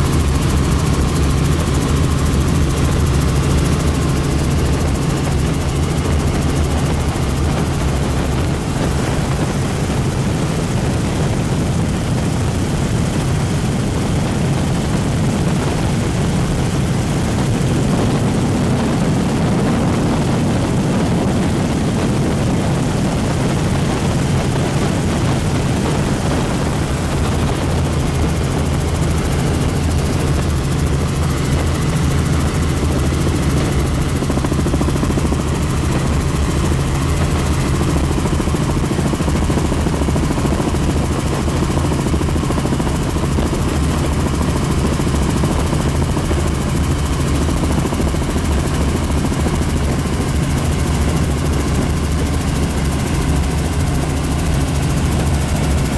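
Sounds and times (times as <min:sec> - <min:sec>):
helicopter rotor and engine drone: 0:00.0 - 0:55.9.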